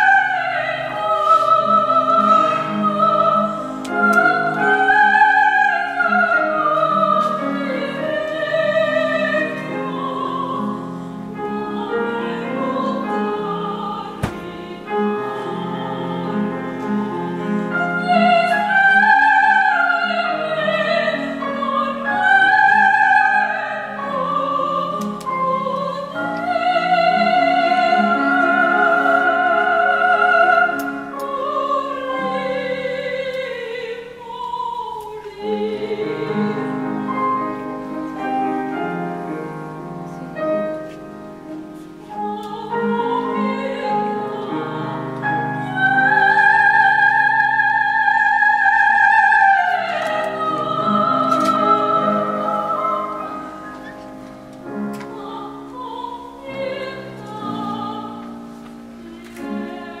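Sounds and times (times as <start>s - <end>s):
woman singing operatically: 0.0s - 10.8s, 11.4s - 37.0s, 42.1s - 53.6s, 54.9s - 58.4s
grand piano: 0.0s - 60.0s.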